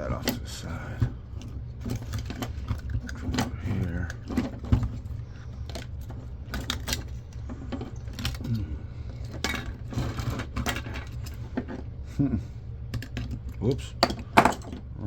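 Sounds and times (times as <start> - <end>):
small parts clicking and clattering: 0.0 - 11.9, 12.9 - 14.9
steady low hum: 0.0 - 15.0.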